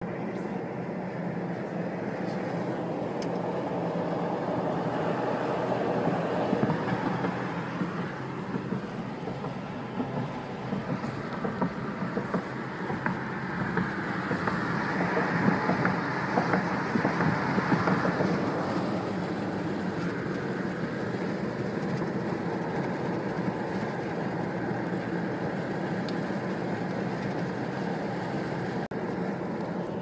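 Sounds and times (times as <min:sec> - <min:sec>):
road and tyre noise in vehicle: 0:00.0 - 0:30.0.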